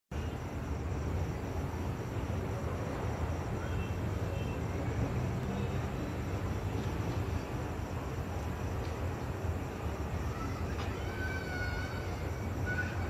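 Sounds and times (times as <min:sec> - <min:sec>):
low outdoor night rumble: 0:00.1 - 0:13.0.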